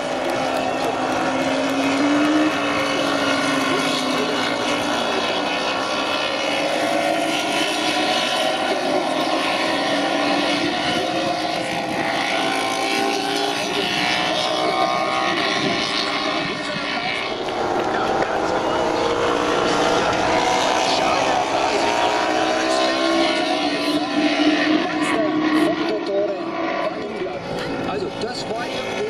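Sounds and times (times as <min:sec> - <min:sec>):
racing motorcycles passing: 0:00.0 - 0:29.0.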